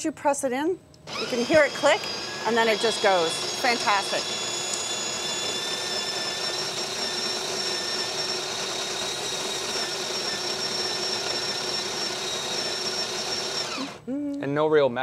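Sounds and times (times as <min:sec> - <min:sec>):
coffee grinder grinding beans: 0:01.1 - 0:14.0.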